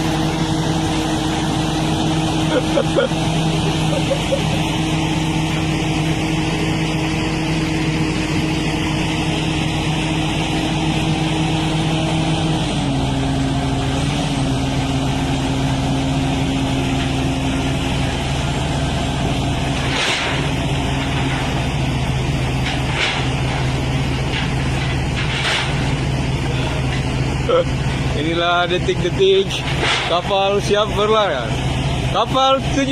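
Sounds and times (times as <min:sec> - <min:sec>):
large diesel engine running: 0:00.0 - 0:32.9.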